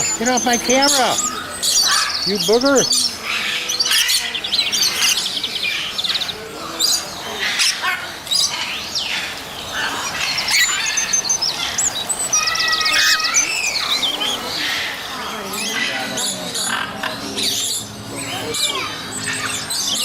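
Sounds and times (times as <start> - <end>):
small birds chirping and twittering: 0.0 - 20.0.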